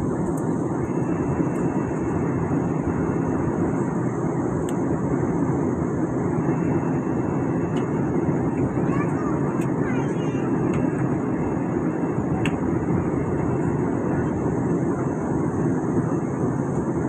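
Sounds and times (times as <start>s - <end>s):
airliner cabin noise: 0.0s - 17.0s.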